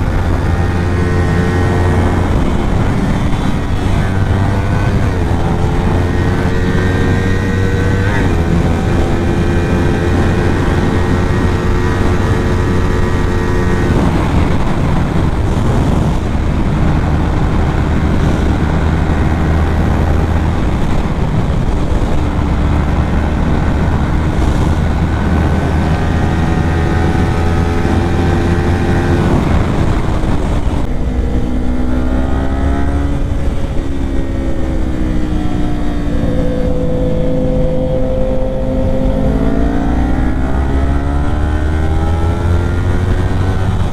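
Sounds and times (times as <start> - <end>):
motorcycle engine running: 0.0 - 43.9
wind noise rushing: 0.0 - 43.9.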